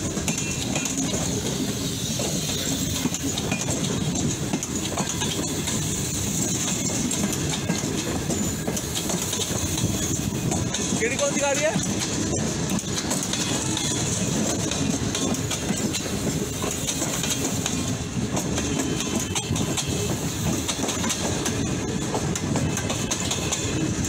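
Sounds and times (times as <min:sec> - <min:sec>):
train wheels rumbling on rails: 0:00.0 - 0:24.0
wheel clicks on rail joints: 0:00.0 - 0:24.0.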